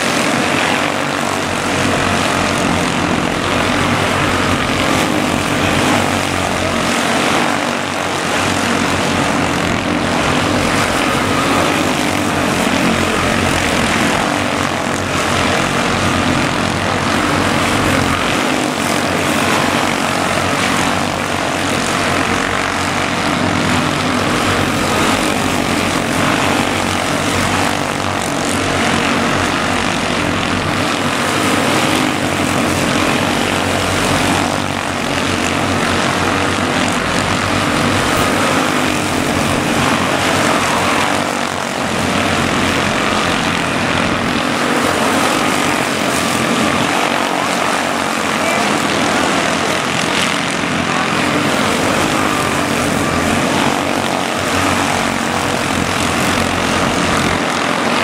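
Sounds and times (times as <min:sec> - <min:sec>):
small race car engines buzzing: 0:00.0 - 0:58.0.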